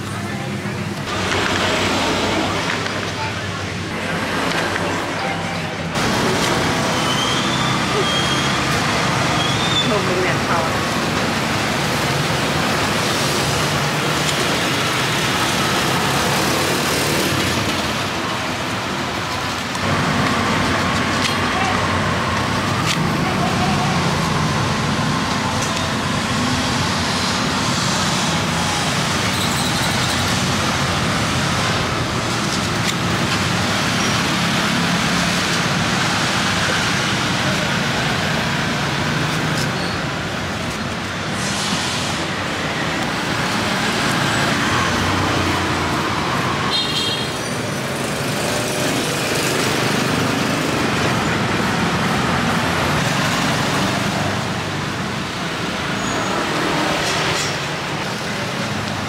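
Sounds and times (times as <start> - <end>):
street traffic hum: 0.0 - 59.0.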